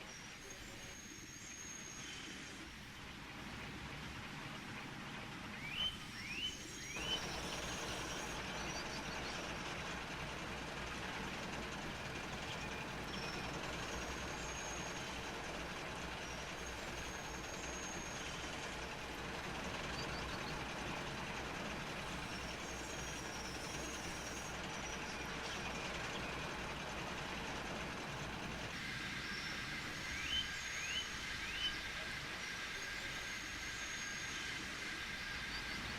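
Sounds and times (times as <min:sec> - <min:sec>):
steam locomotive rumbling: 0:00.0 - 0:35.9.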